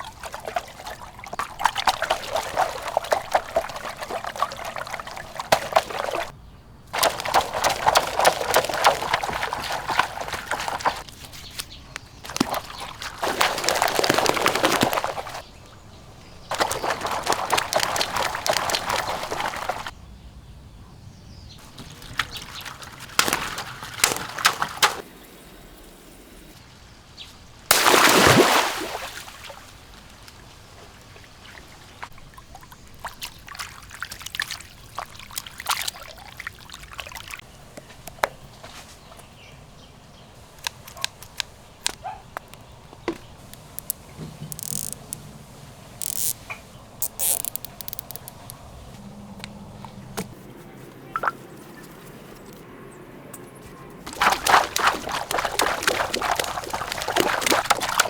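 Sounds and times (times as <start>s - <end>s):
water dripping: 0.0s - 20.0s, 21.6s - 25.0s, 27.6s - 39.7s, 40.4s - 48.8s, 51.2s - 51.4s, 54.1s - 58.0s
water pouring and splashing: 0.0s - 20.0s, 21.6s - 25.1s, 27.6s - 39.3s, 40.4s - 48.7s, 54.0s - 58.0s.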